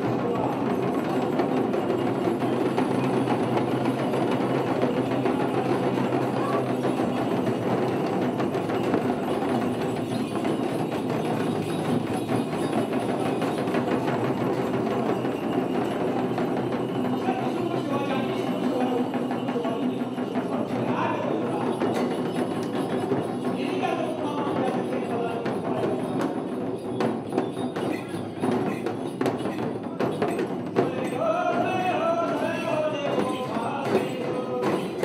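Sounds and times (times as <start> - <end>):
frame drums beaten fast: 0.0 - 35.0.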